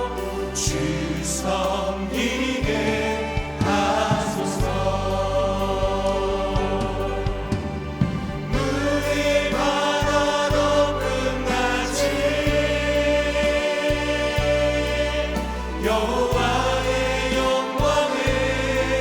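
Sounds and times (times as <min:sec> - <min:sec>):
band playing worship song: 0:00.0 - 0:19.0
choir-like held voices: 0:00.0 - 0:19.0.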